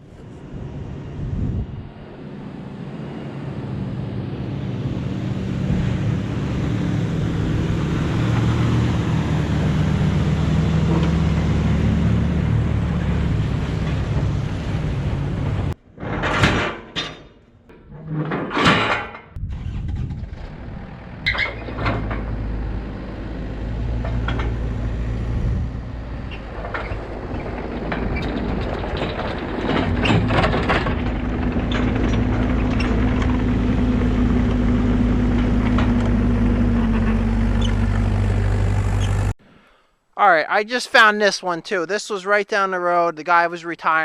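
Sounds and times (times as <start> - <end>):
diesel engine running: 0.0 - 15.8, 19.4 - 39.4.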